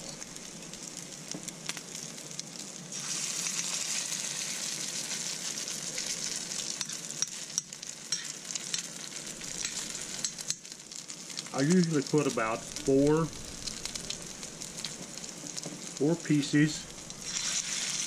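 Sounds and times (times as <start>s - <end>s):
patties sizzling in oil: 0.0s - 18.0s.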